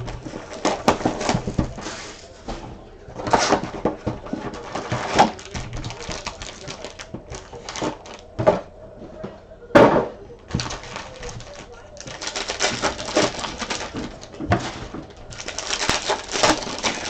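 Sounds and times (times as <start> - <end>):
foil wrappers and cards rustling: 0.0 - 8.5, 10.5 - 17.0.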